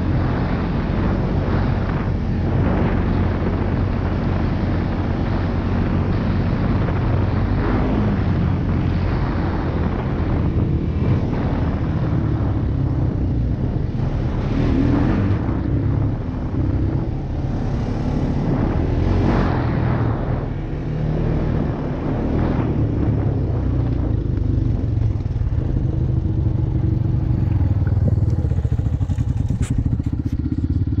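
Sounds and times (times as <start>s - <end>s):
rushing noise: 0.0s - 30.9s
atv engine running: 0.0s - 31.0s.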